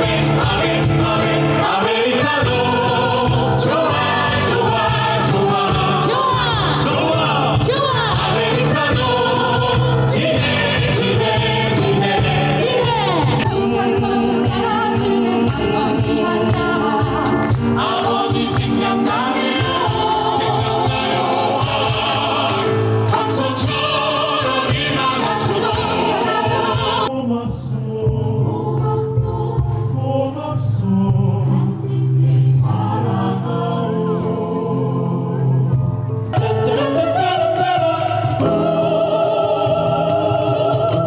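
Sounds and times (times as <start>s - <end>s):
choir singing: 0.0s - 35.7s, 36.3s - 41.0s.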